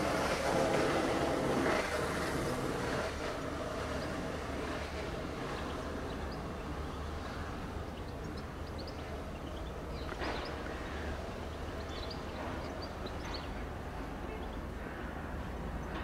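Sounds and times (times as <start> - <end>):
electric train running: 0.0 - 14.8
small birds chirping: 1.8 - 16.0.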